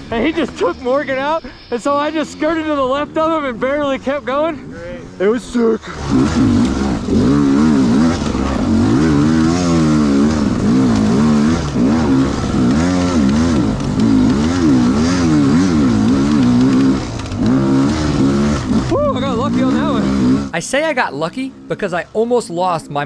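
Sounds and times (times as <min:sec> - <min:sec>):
dirt bike engine revving: 0:00.0 - 0:20.7.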